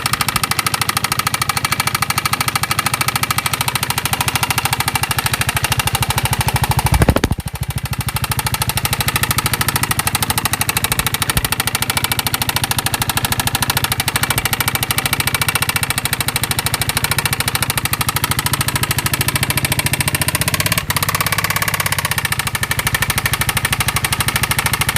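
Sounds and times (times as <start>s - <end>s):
rapid engine knocking: 0.0s - 24.9s
scooter engine running: 0.0s - 24.9s.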